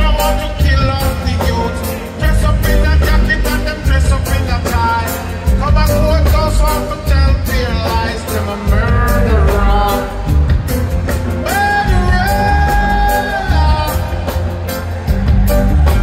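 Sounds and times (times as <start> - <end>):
man singing: 0.0 - 10.6, 11.3 - 14.4
reggae band playing: 0.0 - 16.0.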